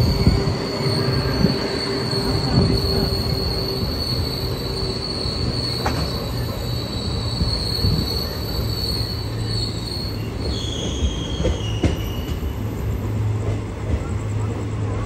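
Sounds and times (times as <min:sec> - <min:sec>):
high wheel squeal: 0:00.0 - 0:13.0
train rumble: 0:00.0 - 0:15.0.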